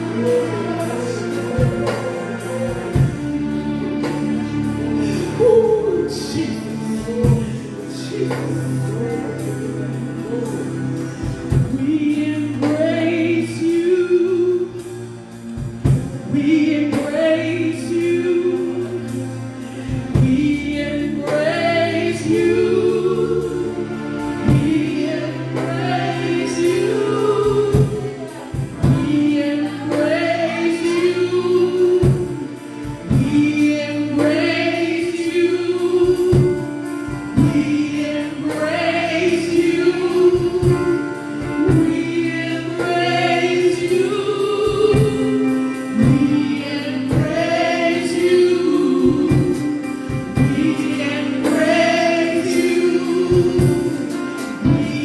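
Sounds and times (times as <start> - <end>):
group singing worship music: 0.0 - 55.0
sustained keyboard chords: 0.0 - 55.0.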